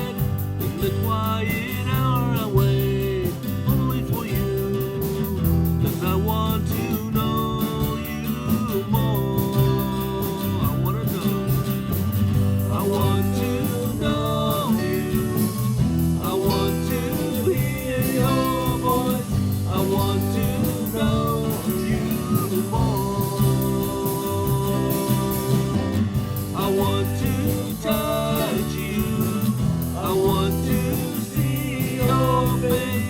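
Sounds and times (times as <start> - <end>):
guitar: 0.0 - 33.0
person singing: 0.0 - 33.0
worship band playing: 0.0 - 33.0.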